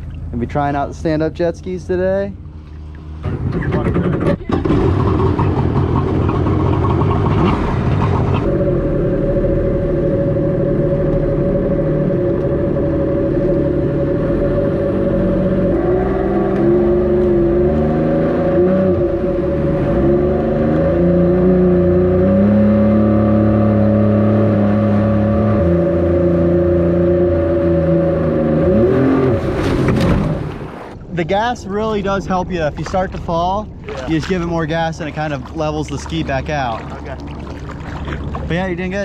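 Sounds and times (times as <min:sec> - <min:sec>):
jet ski engine running: 0:00.0 - 0:39.0.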